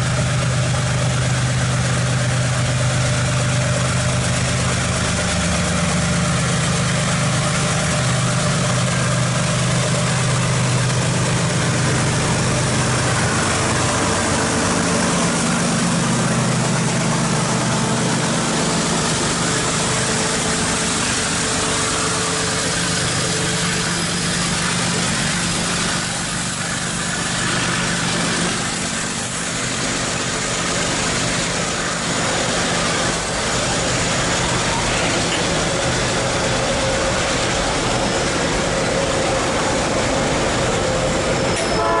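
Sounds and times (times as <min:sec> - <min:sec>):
locomotive engine droning: 0:00.0 - 0:42.0
wagons rumbling and rattling on rails: 0:00.0 - 0:42.0.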